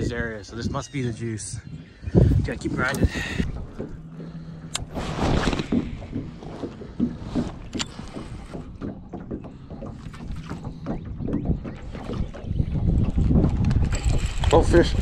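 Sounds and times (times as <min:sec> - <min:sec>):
water slapping boat hull: 0:00.0 - 0:15.0
wind buffeting microphone: 0:00.0 - 0:15.0.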